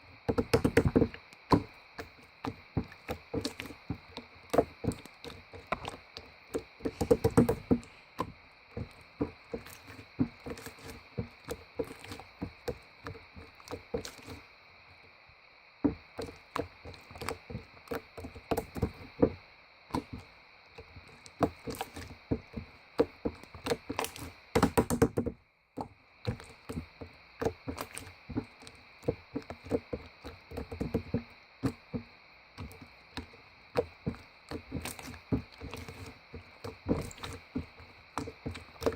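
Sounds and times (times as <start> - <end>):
irregular knocking and tapping: 0.3 - 14.4, 15.8 - 38.9.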